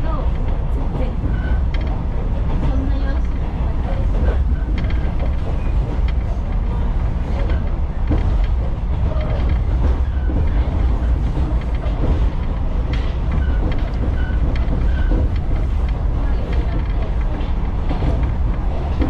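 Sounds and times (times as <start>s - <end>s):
railcar wheels rumbling: 0.0s - 19.0s.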